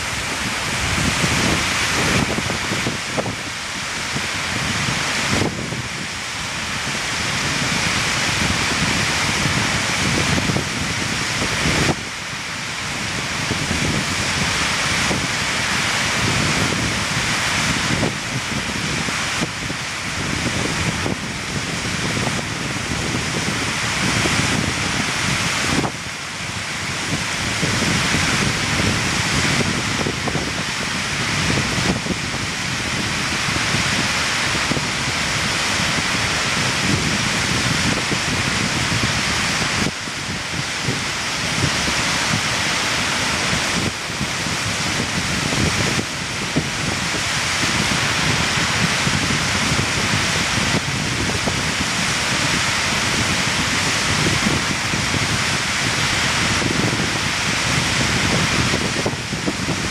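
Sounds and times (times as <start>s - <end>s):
waterfall rushing: 0.0s - 59.9s
wind buffeting microphone: 0.0s - 59.9s.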